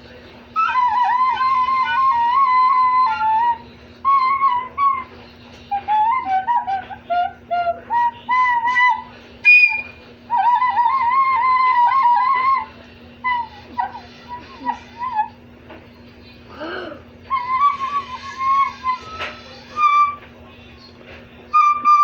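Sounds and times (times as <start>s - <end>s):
recorder playing: 0.6s - 15.4s, 17.3s - 20.2s, 21.5s - 22.0s.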